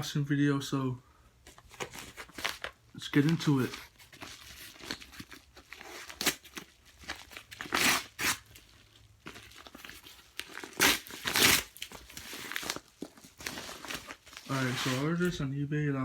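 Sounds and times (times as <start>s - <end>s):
packaging crinkling: 1.5s - 15.3s
package ripping: 1.6s - 15.0s.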